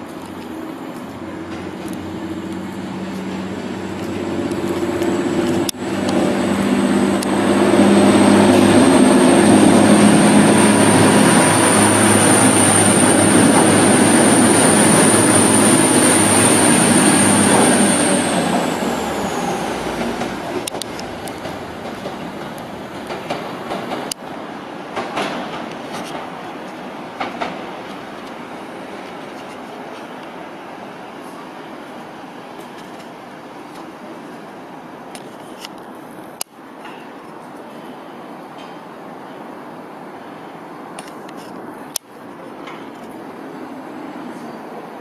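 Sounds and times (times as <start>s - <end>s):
diesel train passing with whine: 0.0s - 35.1s, 41.6s - 45.0s.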